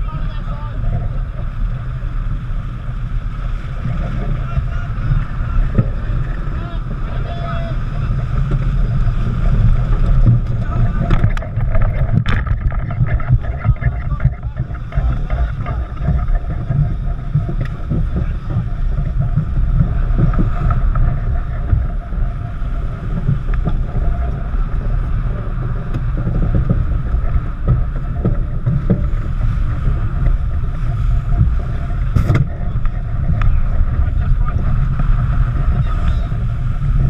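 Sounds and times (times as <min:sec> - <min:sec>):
water rushing along hull: 0:00.0 - 0:37.0
wind buffeting microphone: 0:00.0 - 0:37.0.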